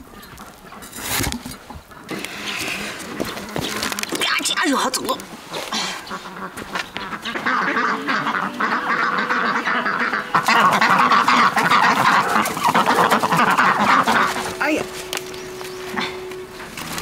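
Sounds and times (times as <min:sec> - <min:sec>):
ducks quacking: 0:01.8 - 0:17.0.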